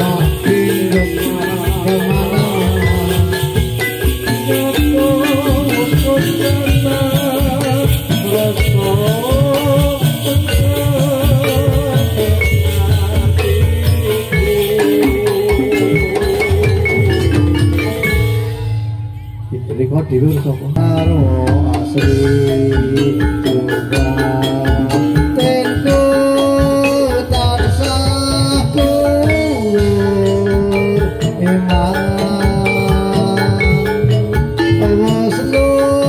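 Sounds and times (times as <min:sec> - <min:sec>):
rattling percussion: 0:00.0 - 0:36.0
ringing metallophone tones: 0:00.0 - 0:36.0
wavering melody line: 0:00.0 - 0:36.0.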